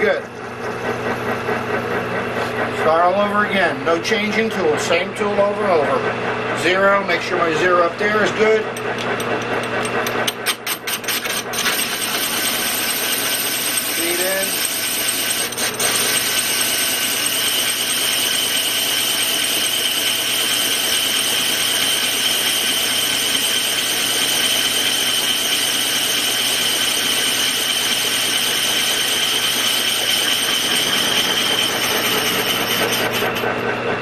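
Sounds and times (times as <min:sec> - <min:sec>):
metal lathe machining: 0:00.0 - 0:34.0.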